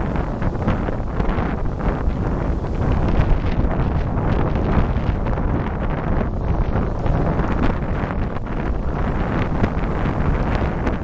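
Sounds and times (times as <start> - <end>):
wind blowing on microphone: 0.0 - 11.0.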